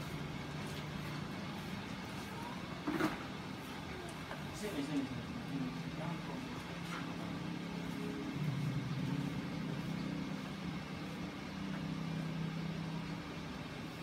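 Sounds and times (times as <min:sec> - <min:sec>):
motor running with low hum: 0:00.0 - 0:14.0.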